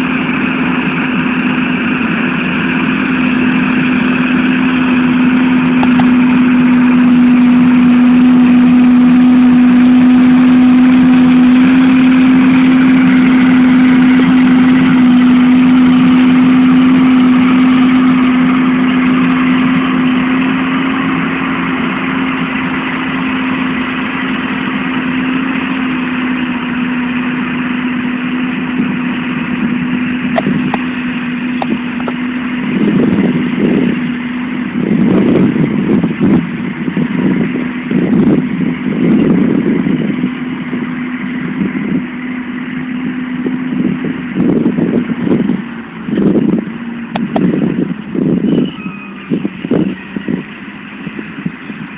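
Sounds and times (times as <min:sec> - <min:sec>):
rough low rumble: 0:00.0 - 0:51.9
tractor diesel engine under load: 0:00.0 - 0:51.9.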